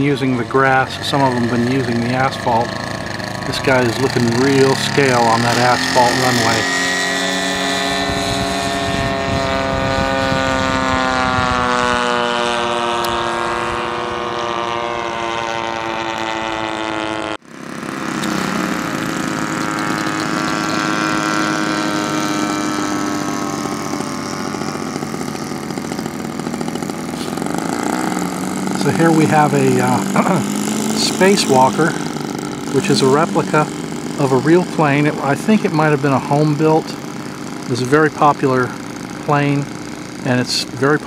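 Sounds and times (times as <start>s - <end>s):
model airplane engine running: 0.0s - 41.0s.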